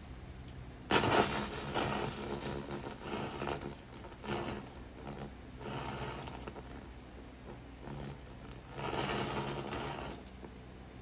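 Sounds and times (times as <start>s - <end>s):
laser welder crackling: 0.6s - 11.0s.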